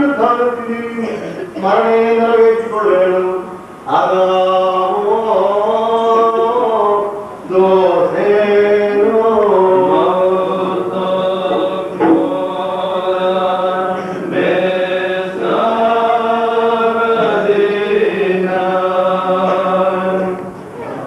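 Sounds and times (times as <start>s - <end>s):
voices chanting slow melody: 0.0s - 21.0s.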